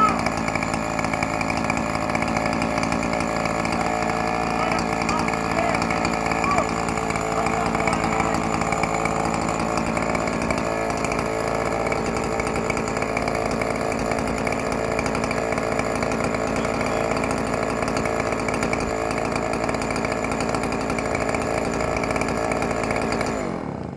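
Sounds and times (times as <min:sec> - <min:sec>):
chainsaw cutting through log: 0:00.0 - 0:23.9.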